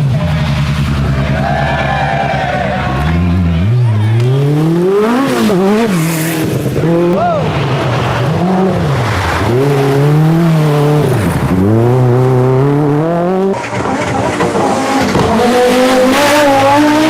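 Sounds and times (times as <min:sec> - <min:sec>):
rally car engine revving: 0:00.0 - 0:17.0
steady engine note: 0:00.0 - 0:17.0.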